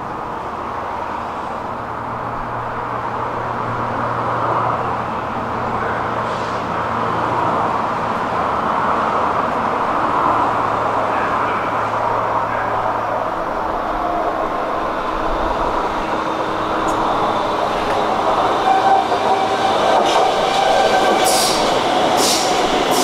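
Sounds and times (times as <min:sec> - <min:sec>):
metro train rumbling: 0:00.0 - 0:23.0.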